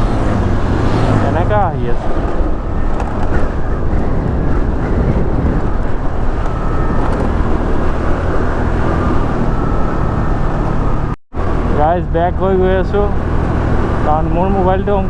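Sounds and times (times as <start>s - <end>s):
motorcycle engine rumbling: 0.0s - 15.0s
wind and road noise: 0.0s - 15.0s.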